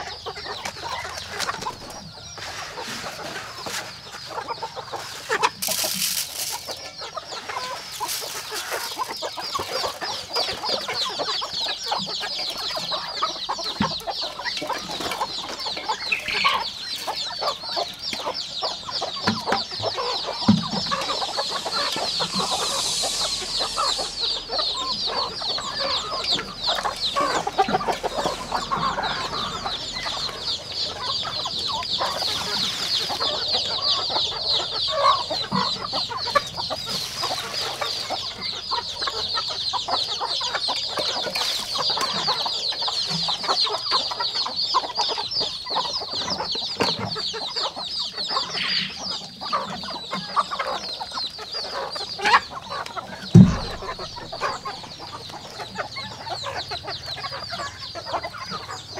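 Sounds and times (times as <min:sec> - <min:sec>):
chickens clucking: 0:00.0 - 0:58.9
dense high-pitched chirping: 0:03.4 - 0:58.9.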